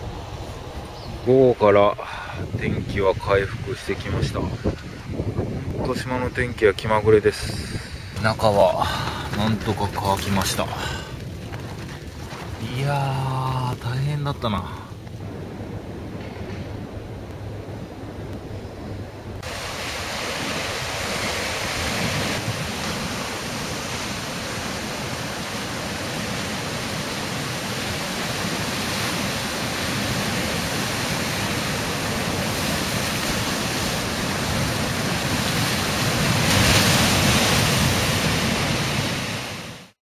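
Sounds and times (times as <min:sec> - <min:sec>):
ocean waves washing: 0:00.0 - 0:40.0.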